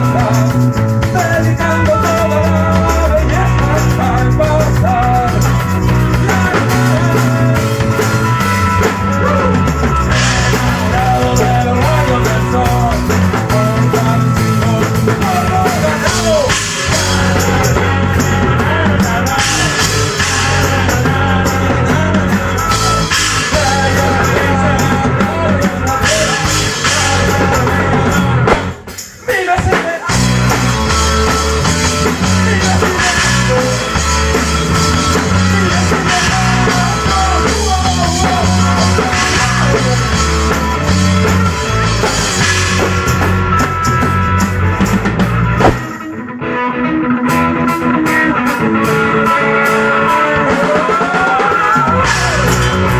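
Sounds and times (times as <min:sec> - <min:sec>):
electric bass: 0:00.0 - 0:29.2, 0:30.0 - 0:52.9
person singing: 0:00.0 - 0:41.3, 0:48.0 - 0:52.9
drum kit: 0:00.0 - 0:46.3, 0:47.2 - 0:52.9
electric guitar: 0:00.0 - 0:52.9.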